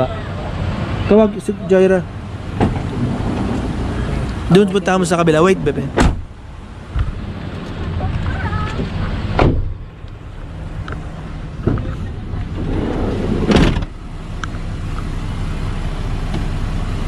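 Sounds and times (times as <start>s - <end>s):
van engine idling: 0.0s - 17.0s.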